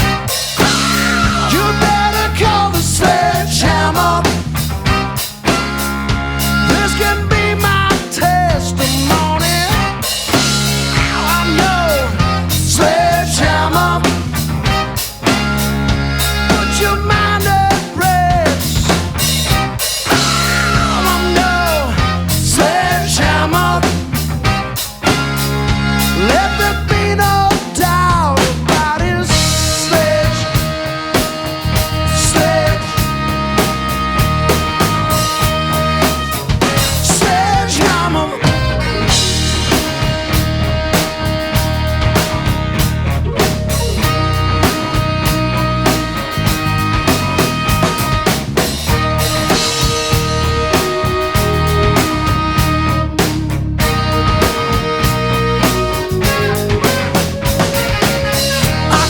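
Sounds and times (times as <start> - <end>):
bass line: 0.0 - 59.0
drum kit hits: 0.0 - 59.0
guitar: 0.0 - 59.0
live rock band playing: 0.0 - 59.0
pitch-bending lead line: 0.0 - 59.0.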